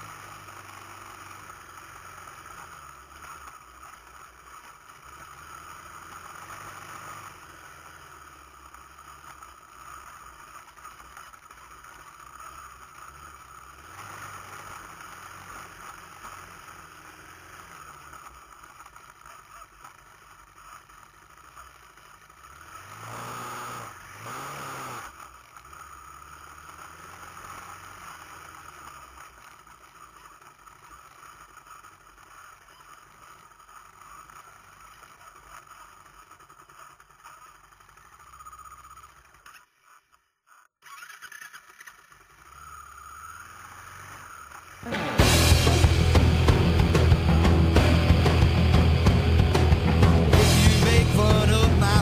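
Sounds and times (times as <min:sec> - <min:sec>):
engine revs: 0:00.0 - 0:40.0, 0:40.8 - 0:52.0
atv engine running low: 0:00.0 - 0:52.0.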